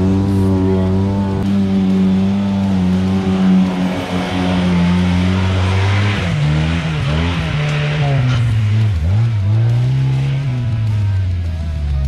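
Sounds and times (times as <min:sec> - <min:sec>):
vehicle engine under load: 0:00.0 - 0:12.0.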